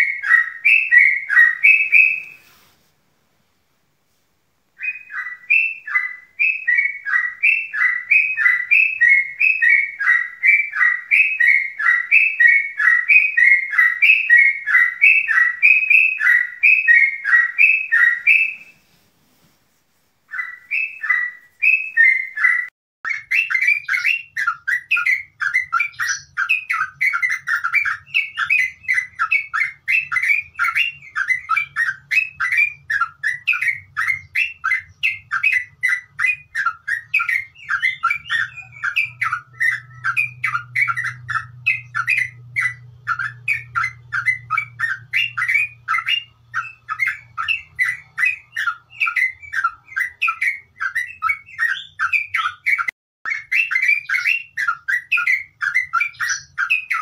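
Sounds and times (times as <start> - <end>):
bird chattering song: 0.0 - 2.5, 4.8 - 18.8, 20.3 - 57.0.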